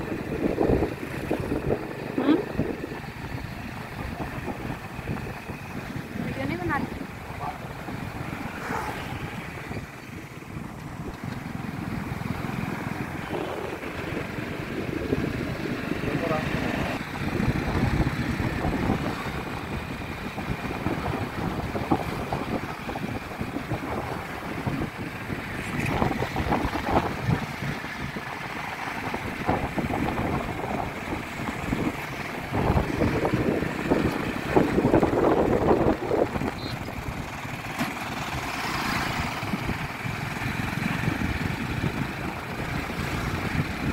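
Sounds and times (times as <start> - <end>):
motorcycle engine running: 0.0 - 43.9
wind rushing over microphone: 0.0 - 43.9.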